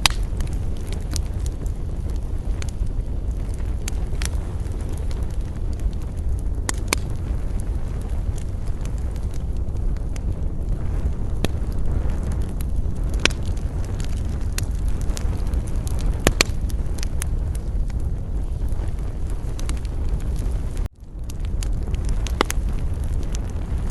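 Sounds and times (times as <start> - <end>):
campfire crackling and popping: 0.0 - 23.9
wind rumble on microphone: 0.0 - 23.9.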